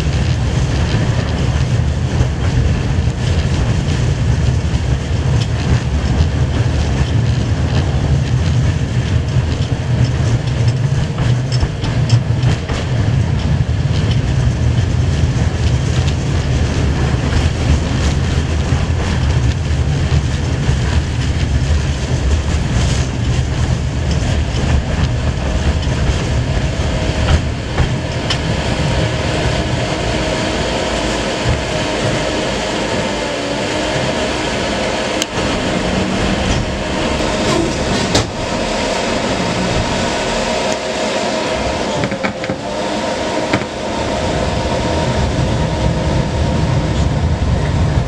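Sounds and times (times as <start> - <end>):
tram wheels rumbling on rails: 0.0 - 48.0.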